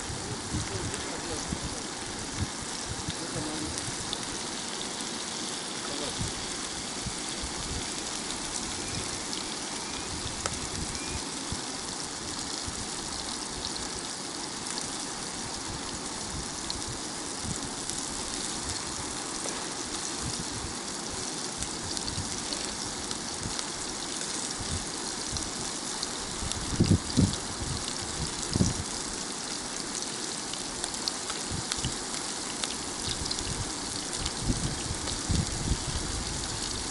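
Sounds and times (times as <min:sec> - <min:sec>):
fish sizzling in oil: 0:00.0 - 0:36.9.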